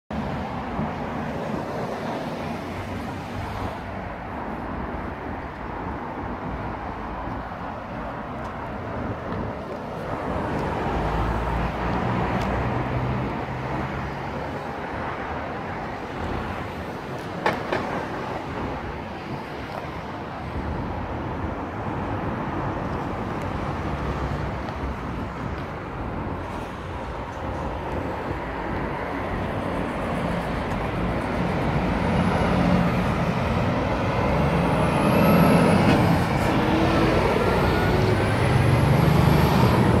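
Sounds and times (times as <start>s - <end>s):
traffic rumble: 0.1s - 40.0s.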